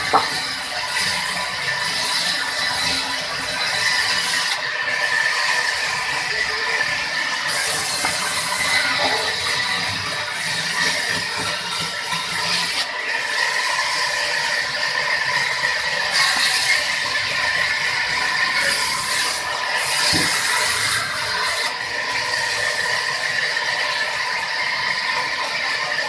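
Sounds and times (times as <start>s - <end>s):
saw cutting timber hiss: 0.0s - 6.6s, 7.4s - 14.6s, 15.9s - 23.7s
sawmill saw whine: 0.0s - 26.0s.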